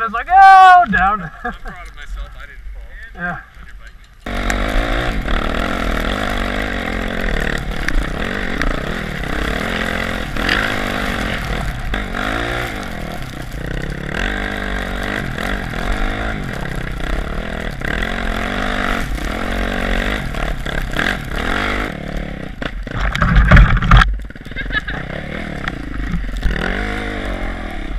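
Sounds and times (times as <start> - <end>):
motorcycle engine revving: 4.2 - 27.9.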